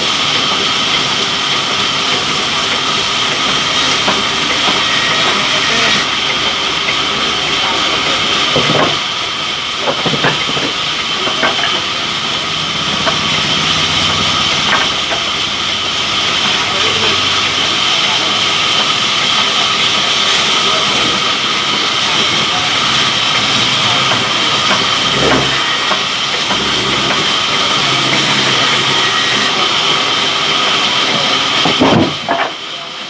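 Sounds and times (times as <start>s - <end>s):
sawmill saw whining: 0.0s - 31.8s.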